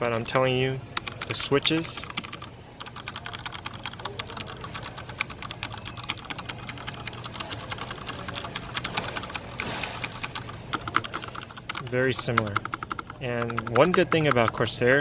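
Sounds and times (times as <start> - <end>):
fast mechanical keyboard typing: 0.0 - 15.0.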